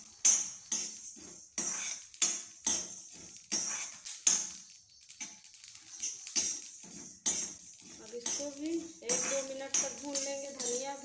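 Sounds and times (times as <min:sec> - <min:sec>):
seeds rattling in a pan: 0:00.0 - 0:11.0.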